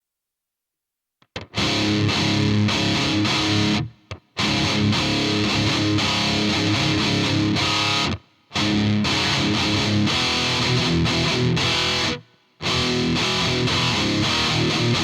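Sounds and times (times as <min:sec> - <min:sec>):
distorted electric guitar strumming: 0:01.4 - 0:15.0.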